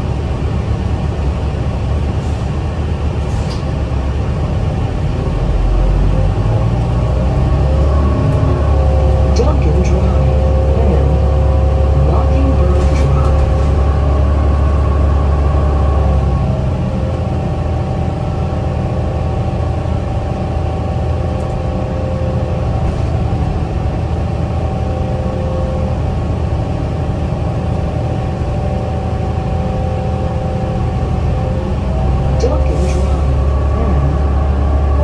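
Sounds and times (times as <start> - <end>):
bus engine low rumble: 0.0 - 35.0
drivetrain whine: 2.8 - 35.0.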